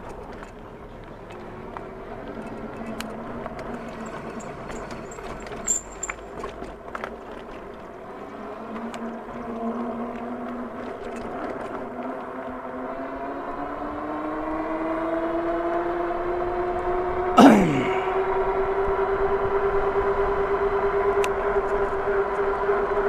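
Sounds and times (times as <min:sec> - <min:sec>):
bike tires whining on road: 0:00.0 - 0:23.0.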